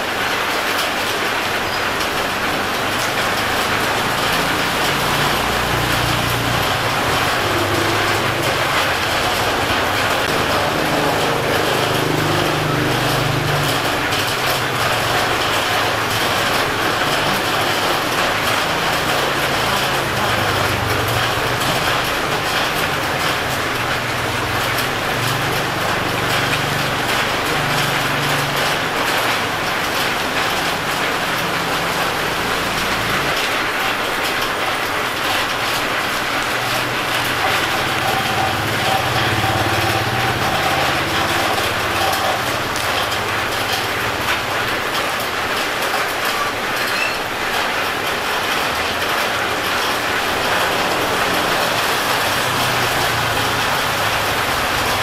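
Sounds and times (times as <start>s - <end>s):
vehicle engines running: 0.0s - 55.0s.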